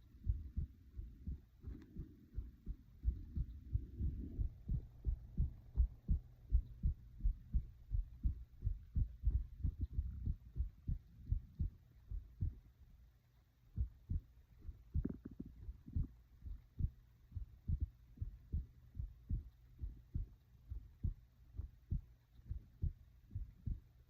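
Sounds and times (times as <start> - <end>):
heart beating: 0.0 - 12.8, 13.7 - 24.0.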